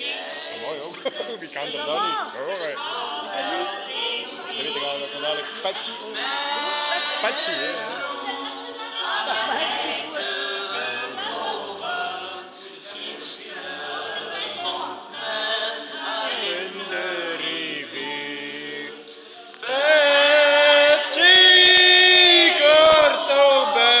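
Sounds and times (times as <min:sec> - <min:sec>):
women singing together: 0:00.0 - 0:24.0.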